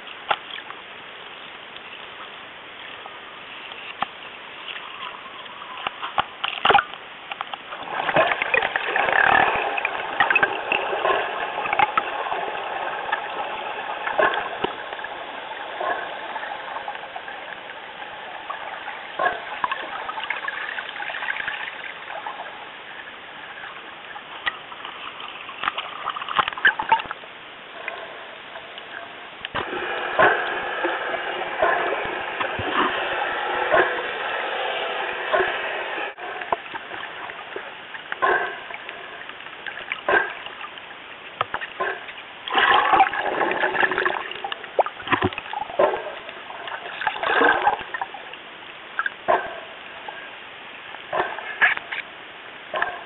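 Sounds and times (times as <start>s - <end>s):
sea water splashing and sloshing: 0.0s - 53.0s.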